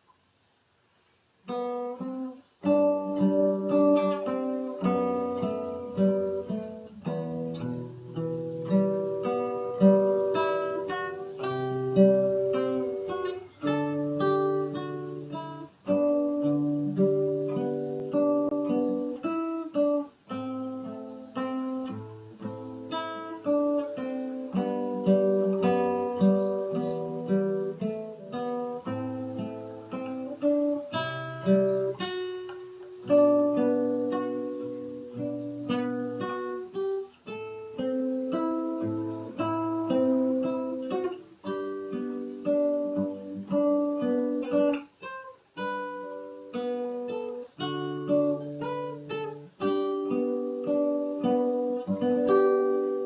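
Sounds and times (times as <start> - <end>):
fingerstyle acoustic guitar: 1.4 - 53.0.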